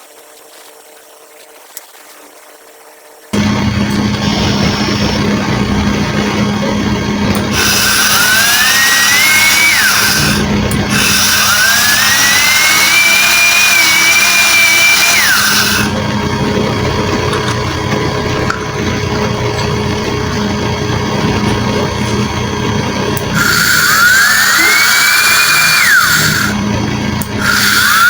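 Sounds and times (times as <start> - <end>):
small electric motor whining: 3.3 - 28.0.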